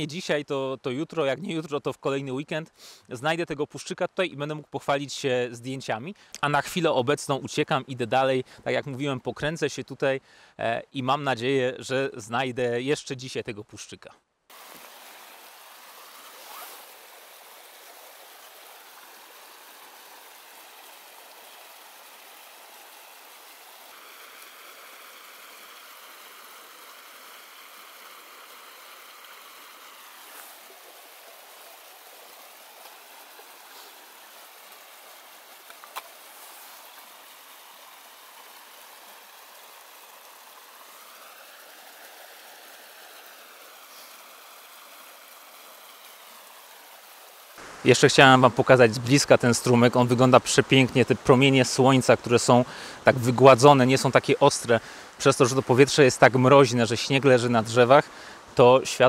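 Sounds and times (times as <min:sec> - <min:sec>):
stream running over stones: 0:00.0 - 0:13.3, 0:14.5 - 0:59.0.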